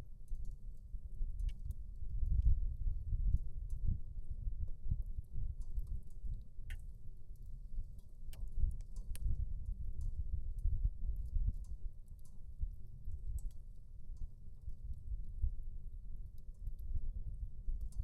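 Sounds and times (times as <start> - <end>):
fire low rumble: 0.0 - 18.0
wood fire crackling with pops: 0.1 - 18.0.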